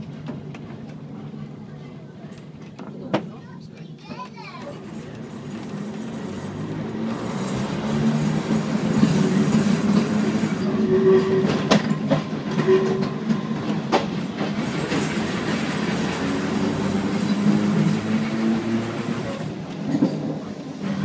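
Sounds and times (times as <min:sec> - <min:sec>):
tram motors humming: 0:03.8 - 0:21.0.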